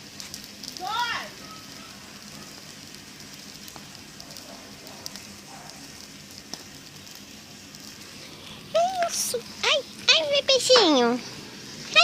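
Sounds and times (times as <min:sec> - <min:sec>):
bonfire crackling: 0:00.0 - 0:12.0.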